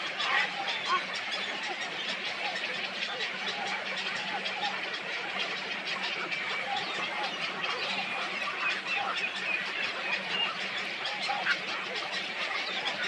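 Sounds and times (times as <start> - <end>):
chorus of birds calling: 0.0 - 13.0.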